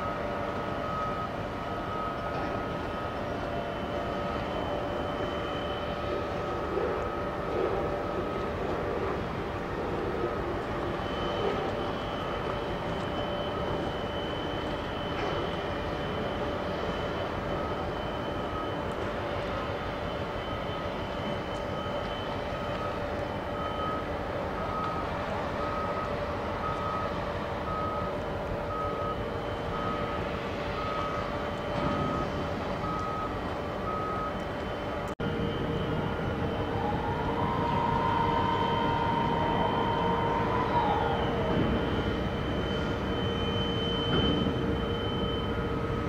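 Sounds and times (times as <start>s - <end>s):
machine whine: 0.0s - 46.0s
reversing alarm beeping: 0.0s - 46.0s.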